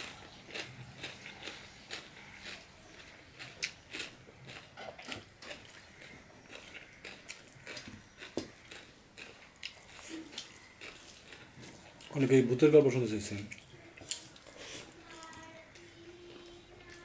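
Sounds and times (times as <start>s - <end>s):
soft chewing and mouth clicks: 0.0s - 12.4s, 13.3s - 17.0s.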